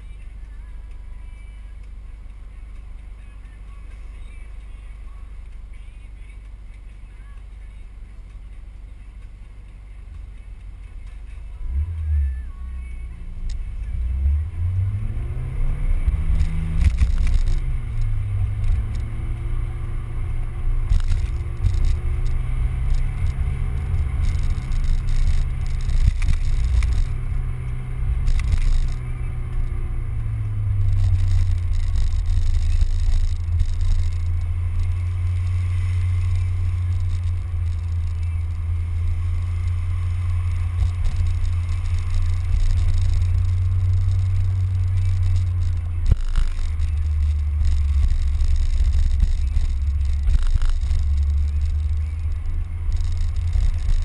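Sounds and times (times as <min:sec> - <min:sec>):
road and wind noise: 0:00.0 - 0:54.0
car engine revving: 0:05.8 - 0:54.0.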